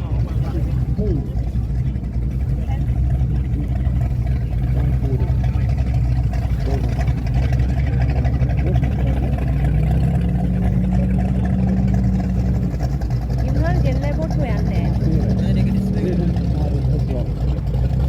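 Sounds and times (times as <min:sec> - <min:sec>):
higher steady engine note: 0:00.0 - 0:18.0
motorboat engine droning: 0:00.0 - 0:18.0.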